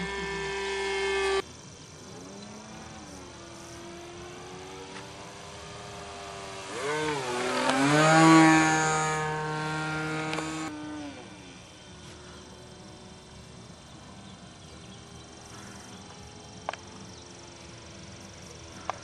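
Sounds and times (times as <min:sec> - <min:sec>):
model plane engine flying past: 0:00.0 - 0:19.0.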